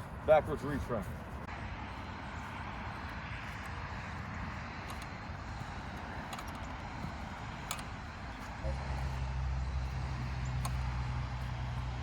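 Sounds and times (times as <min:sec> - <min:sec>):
distant traffic or aircraft: 0:00.0 - 0:12.0.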